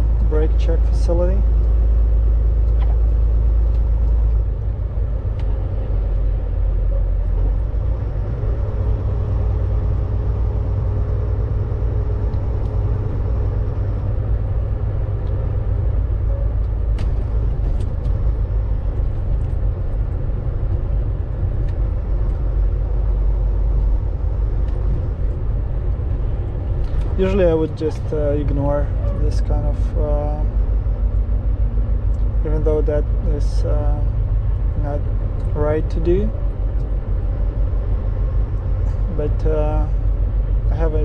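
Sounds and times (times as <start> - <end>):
truck diesel engine rumbling: 0.0 - 41.0.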